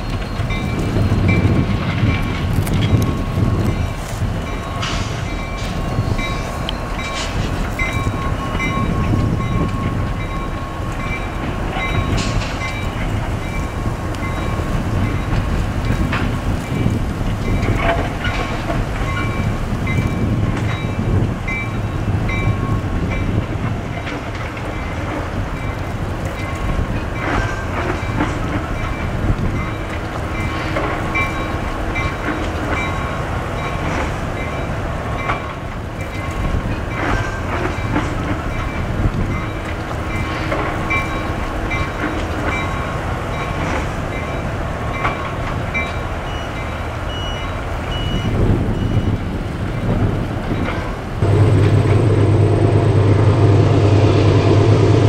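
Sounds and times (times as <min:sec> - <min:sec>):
freight train rumbling past: 0:00.0 - 0:55.0
steel wheels clicking over rail joints: 0:00.0 - 0:55.0.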